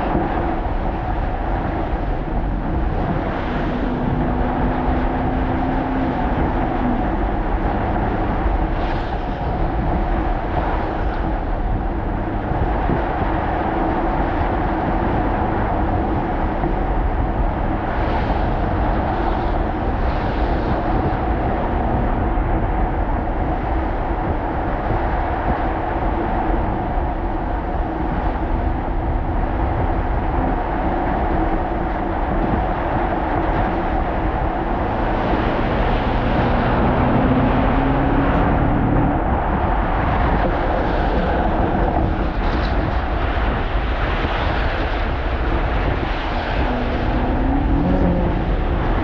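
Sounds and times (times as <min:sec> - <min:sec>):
engine and road noise drone: 0:00.0 - 0:49.0.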